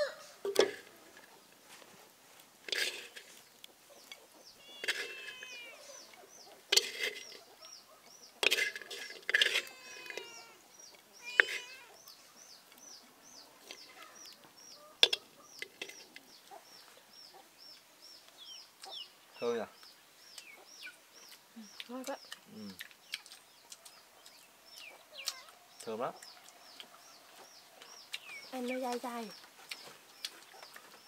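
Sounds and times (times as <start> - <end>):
chicks peeping: 3.4 - 31.0.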